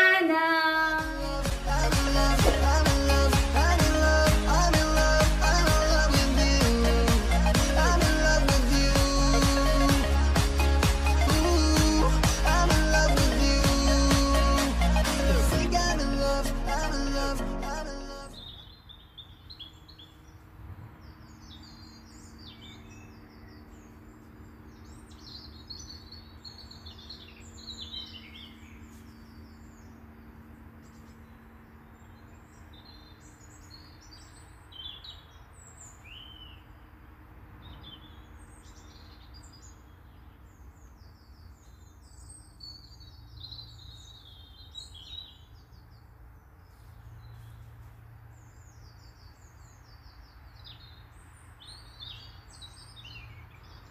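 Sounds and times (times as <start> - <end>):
songbirds chirping and singing: 0.0 - 53.9.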